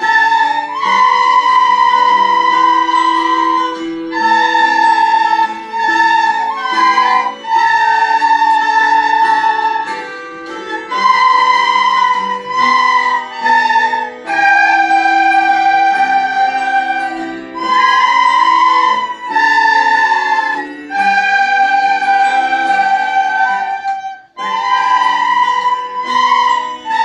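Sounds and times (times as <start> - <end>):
children playing recorders: 0.0 - 27.0.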